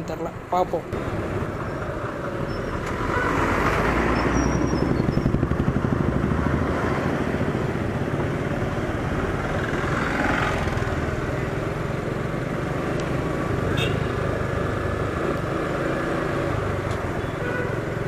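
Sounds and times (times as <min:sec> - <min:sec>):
heavy vehicles passing: 0:00.0 - 0:18.0
road noise: 0:00.0 - 0:18.0
motorcycle engine: 0:01.0 - 0:18.0.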